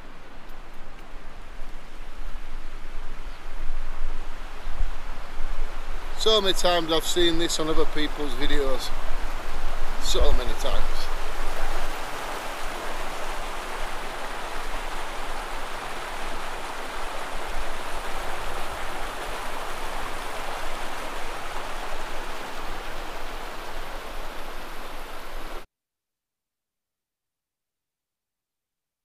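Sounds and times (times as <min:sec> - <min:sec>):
flowing water rushing: 0:00.0 - 0:25.6.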